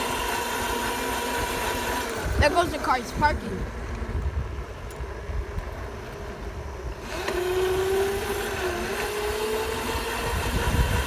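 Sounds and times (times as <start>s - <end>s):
wind buffeting microphone: 0.6s - 11.0s.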